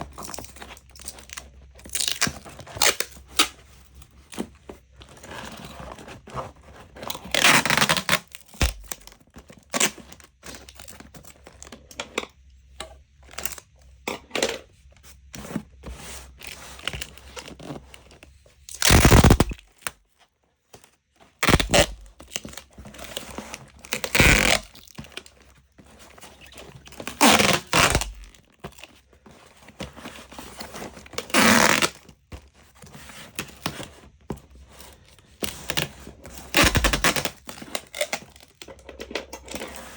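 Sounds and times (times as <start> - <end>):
rustling crinkling noise: 0.0 - 12.0, 14.6 - 39.9.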